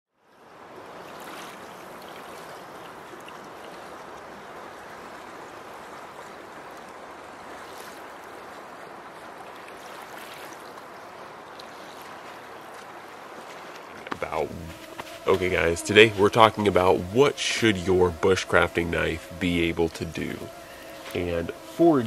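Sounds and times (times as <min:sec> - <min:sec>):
river water rushing: 0:00.5 - 0:22.0.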